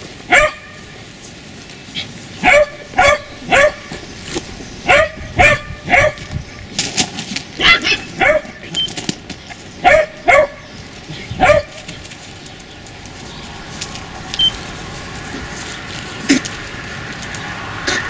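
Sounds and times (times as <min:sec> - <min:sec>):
puppies barking: 0:00.2 - 0:01.0, 0:02.0 - 0:06.6, 0:07.6 - 0:08.9, 0:09.5 - 0:18.0.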